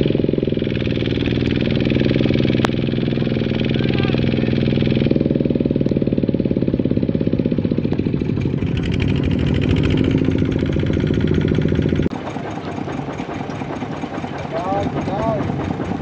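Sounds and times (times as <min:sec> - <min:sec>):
diesel tractor engine chugging: 0:00.0 - 0:16.0.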